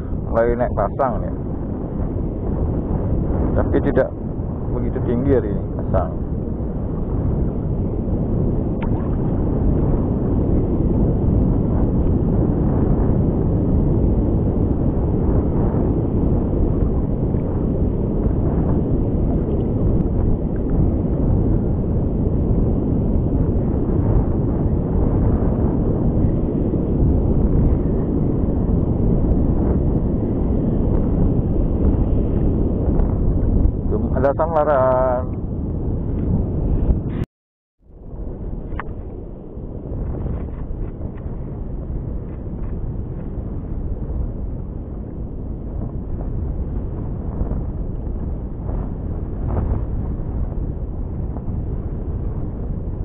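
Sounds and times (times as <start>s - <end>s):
wind buffeting the microphone: 0.0s - 53.0s.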